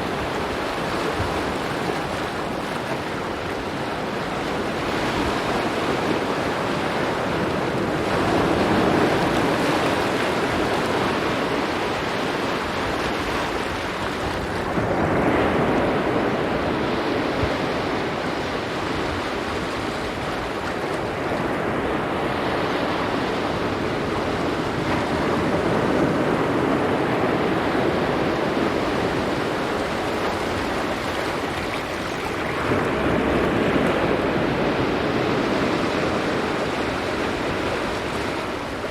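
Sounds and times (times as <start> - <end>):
waves breaking on rocky beach: 0.0 - 38.9.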